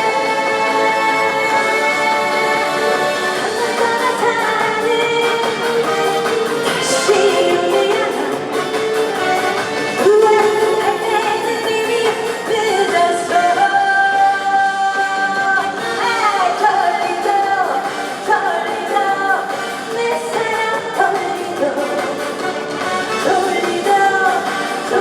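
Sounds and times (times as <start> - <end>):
band accompaniment: 0.0 - 13.8, 15.2 - 25.0
woman singing: 0.0 - 25.0.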